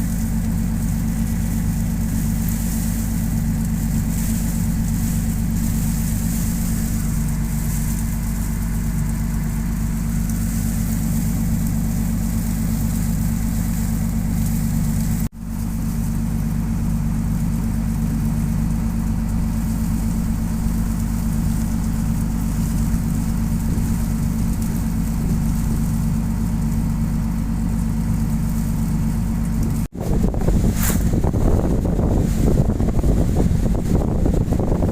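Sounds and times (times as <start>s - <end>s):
boat engine humming: 0.0s - 34.9s.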